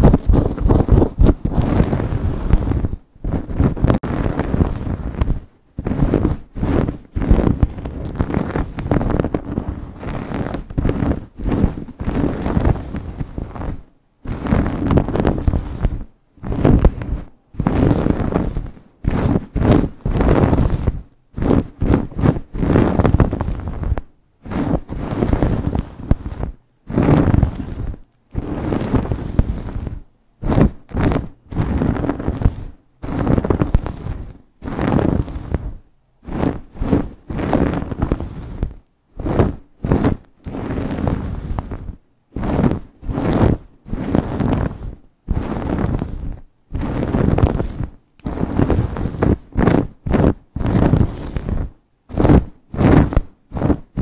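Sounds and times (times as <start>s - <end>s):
nails scratching through hair: 0.0s - 54.0s.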